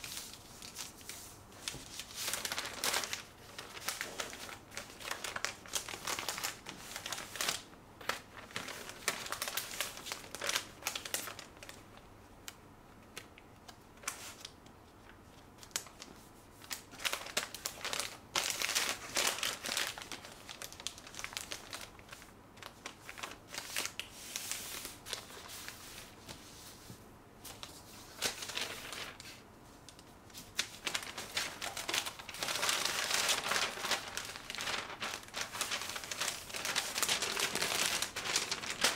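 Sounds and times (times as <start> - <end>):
paper rustling and crinkling: 0.0 - 12.0, 14.0 - 38.9.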